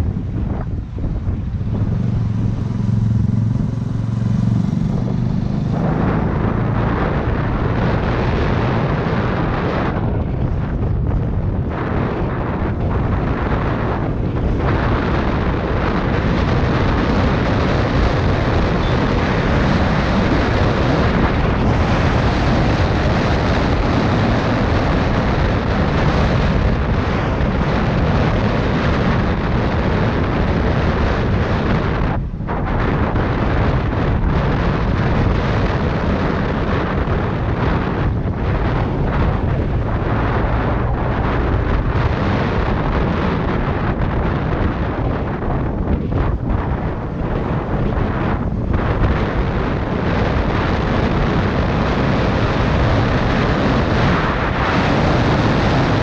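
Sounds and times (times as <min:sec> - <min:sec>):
scooter engine and road noise: 0:00.0 - 0:56.0
wind buffeting microphone: 0:00.0 - 0:56.0.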